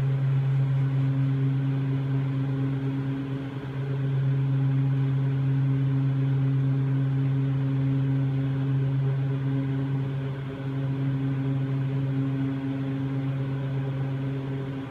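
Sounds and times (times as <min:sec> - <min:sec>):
machine hum: 0:00.0 - 0:14.9.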